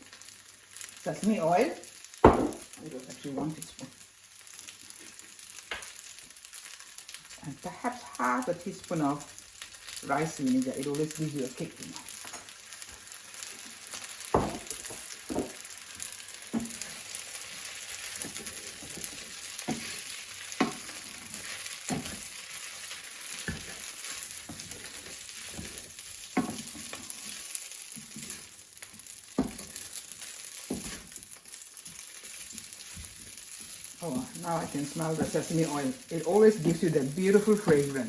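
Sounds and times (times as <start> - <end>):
noodles sizzling in a pan: 0.0 - 38.0.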